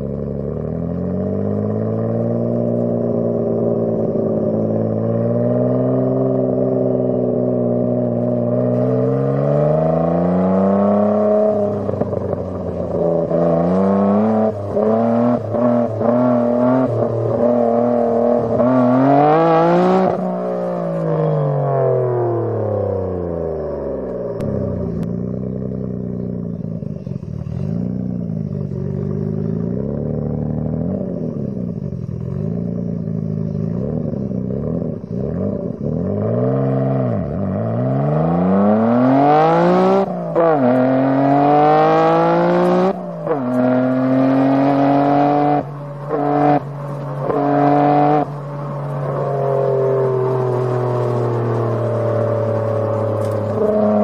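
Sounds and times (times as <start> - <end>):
car engine accelerating and cruising: 0.0 - 54.0.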